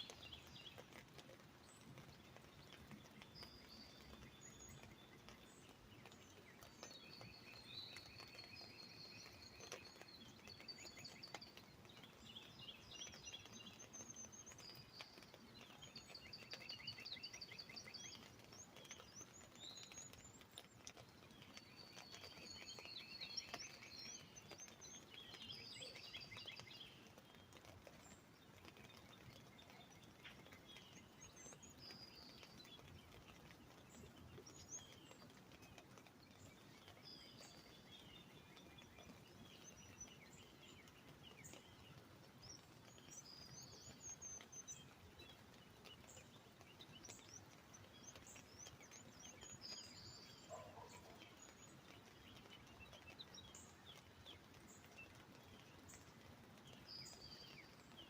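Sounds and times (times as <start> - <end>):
light rain patter: 0.0 - 58.0
birds chirping and trilling: 0.1 - 58.0.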